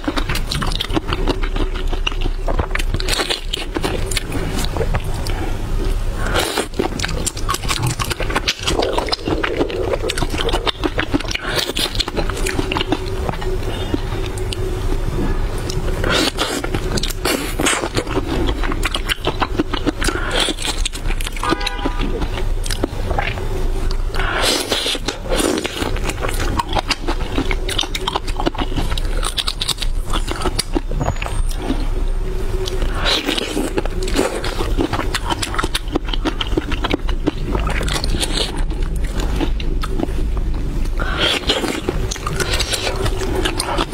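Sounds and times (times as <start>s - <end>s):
mouth eating sounds: 0.0s - 43.9s
steady low hum: 0.0s - 43.9s.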